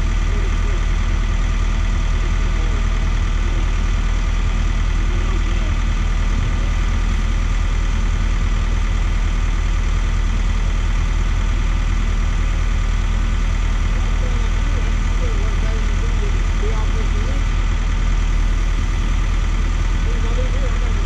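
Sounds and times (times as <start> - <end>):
heavy engines running: 0.0 - 21.0
strong low hum: 0.0 - 21.0.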